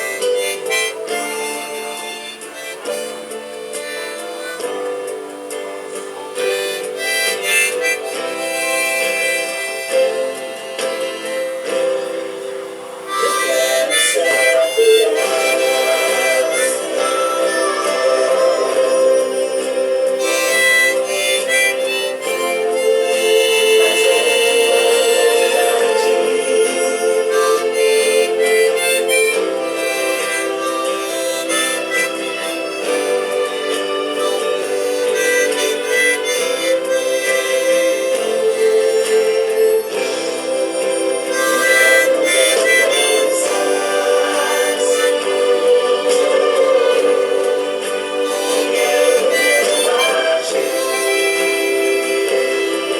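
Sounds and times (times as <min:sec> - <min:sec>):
accordion playing a tune: 0:00.0 - 0:52.9.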